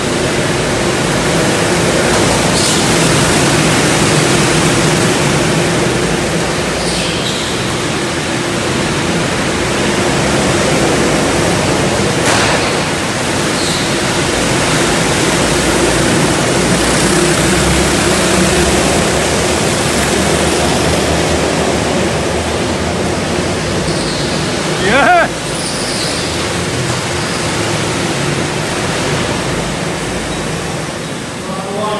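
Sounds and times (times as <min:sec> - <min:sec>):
go-kart engines running: 0:00.0 - 0:31.9.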